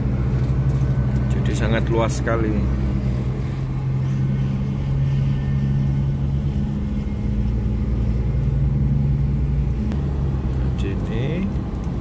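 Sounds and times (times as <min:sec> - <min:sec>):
car engine hum: 0:00.0 - 0:12.0
road rumble: 0:00.0 - 0:12.0.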